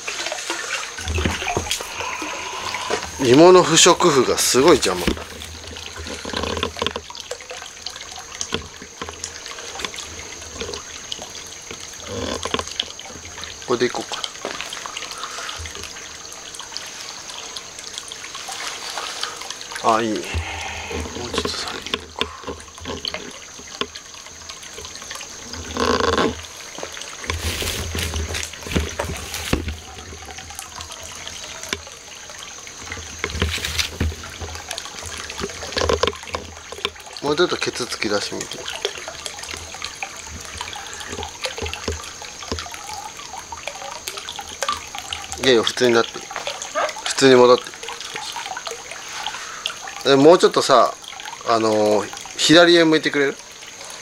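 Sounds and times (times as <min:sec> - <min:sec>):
small water drips: 0:00.0 - 0:54.0
water trickling: 0:00.0 - 0:54.0.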